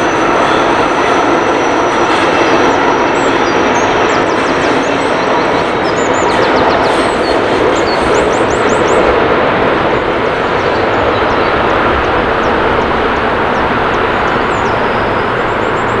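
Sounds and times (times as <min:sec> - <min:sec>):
passing train rushing: 0:00.0 - 0:16.0.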